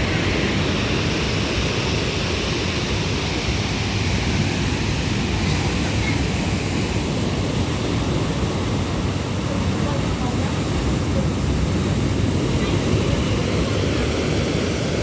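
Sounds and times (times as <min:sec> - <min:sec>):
sea surf rushing: 0:00.0 - 0:15.0
wind on microphone: 0:00.0 - 0:15.0.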